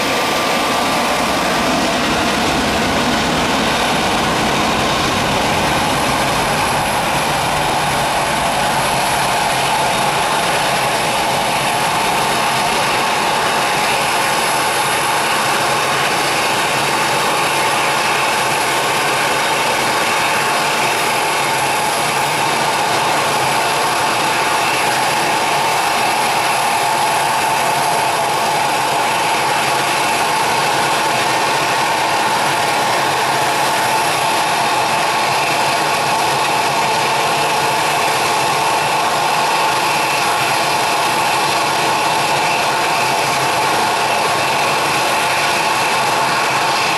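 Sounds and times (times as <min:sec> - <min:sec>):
jet engines at takeoff: 0:00.0 - 0:46.9.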